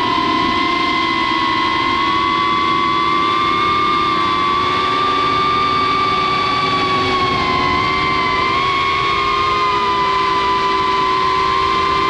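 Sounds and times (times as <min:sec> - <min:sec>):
quadcopter motors whining: 0:00.0 - 0:12.0.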